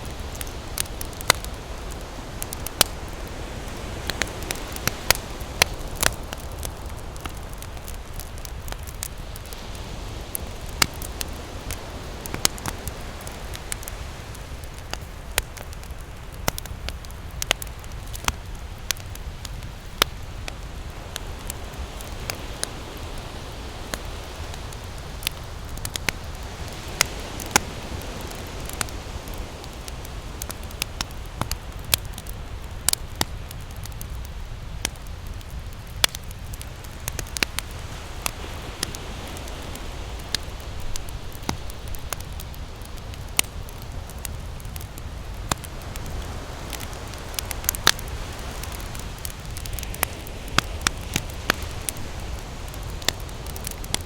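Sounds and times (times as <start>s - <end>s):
campfire crackling: 0.0s - 54.0s
ocean waves on a beach: 0.0s - 54.0s.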